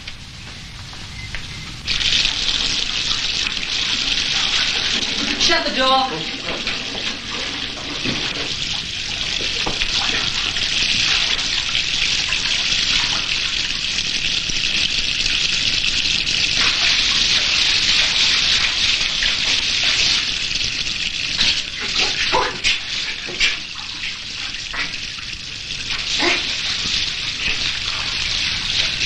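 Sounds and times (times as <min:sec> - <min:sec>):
tap water running into bathtub: 0:00.0 - 0:29.0.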